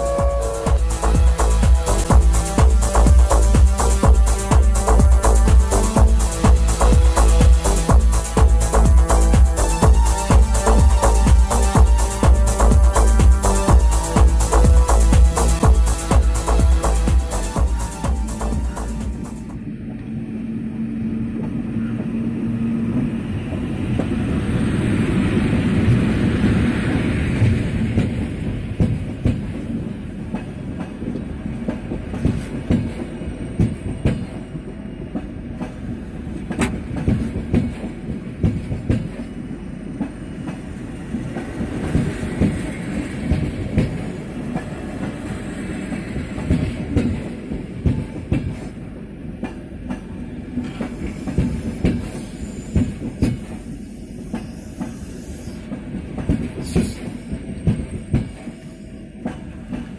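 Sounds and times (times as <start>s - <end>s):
electric locomotive rumble: 0.0s - 59.9s.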